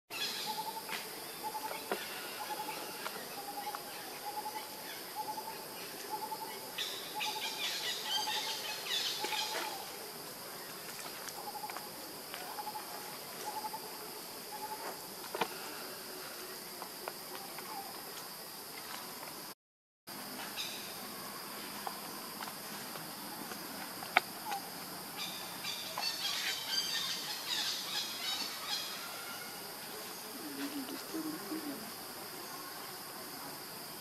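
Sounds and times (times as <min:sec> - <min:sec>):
high insect drone: 0:00.1 - 0:34.0.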